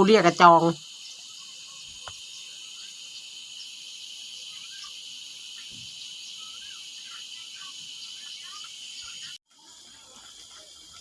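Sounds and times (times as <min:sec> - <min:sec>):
crickets and insects chorus: 0:00.0 - 0:11.0
faint chirping calls: 0:00.0 - 0:11.0.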